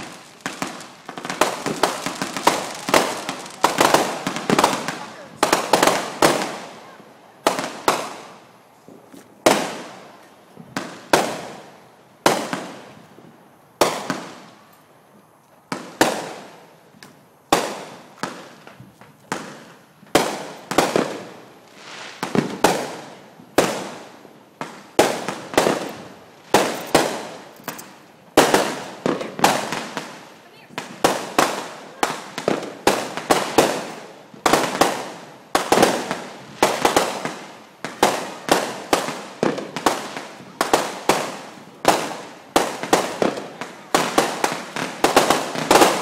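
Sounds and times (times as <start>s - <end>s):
fireworks bangs: 0.0s - 14.7s, 15.7s - 46.0s.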